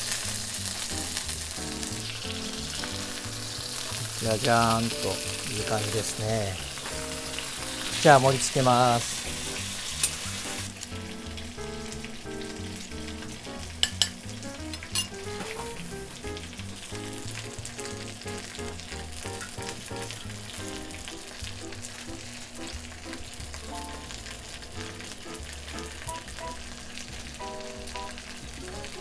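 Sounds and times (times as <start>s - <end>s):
oil sizzling in frying pan: 0.0s - 29.0s.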